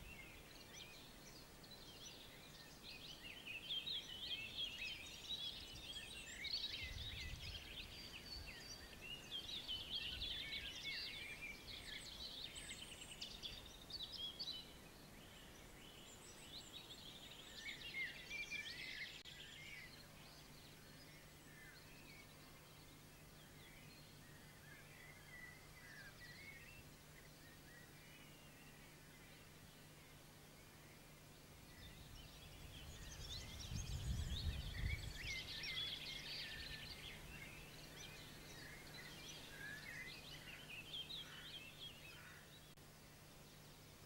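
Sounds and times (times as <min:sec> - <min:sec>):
songbirds singing and chirping: 0:00.0 - 0:44.0.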